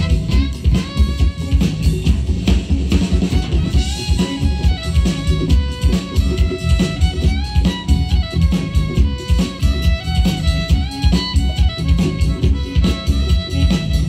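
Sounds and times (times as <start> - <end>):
accordion: 0.0 - 14.0
drums: 0.0 - 14.0
electric guitar: 0.0 - 14.0
fiddle: 0.0 - 14.0.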